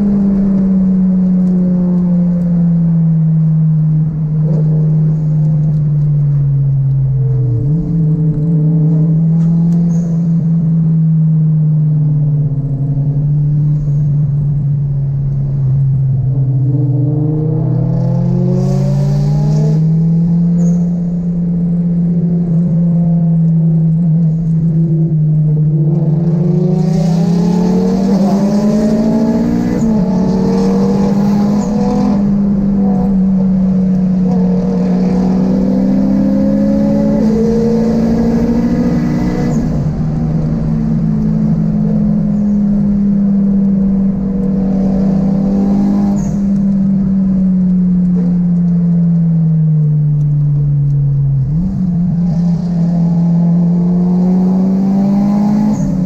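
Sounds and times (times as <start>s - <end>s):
car engine revving inside cabin: 0.0s - 56.0s.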